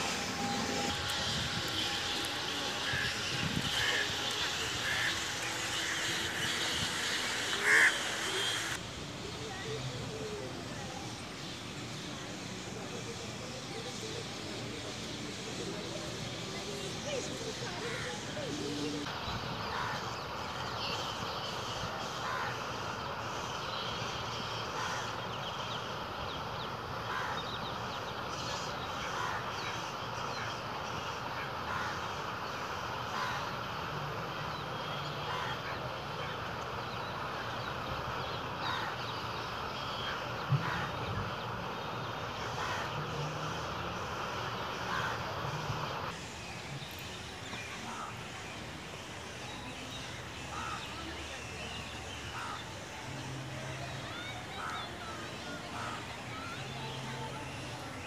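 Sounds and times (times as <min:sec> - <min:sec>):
birds calling: 0:00.0 - 0:08.8, 0:14.8 - 0:58.0
steady outdoor hiss: 0:00.0 - 0:58.0.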